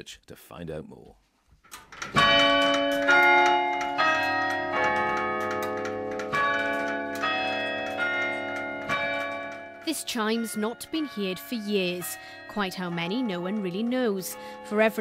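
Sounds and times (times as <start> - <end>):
clock bells chiming: 2.1 - 15.0.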